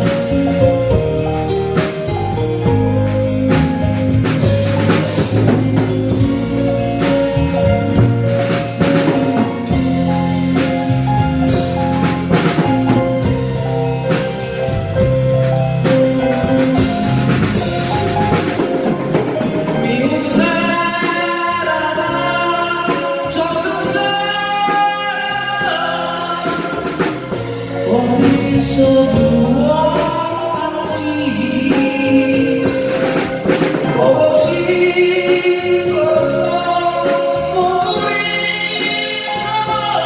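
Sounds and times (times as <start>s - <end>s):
bright melodic lead line: 0.0s - 40.0s
drum kit steady beat: 0.0s - 40.0s
keyboard chords: 0.0s - 40.0s.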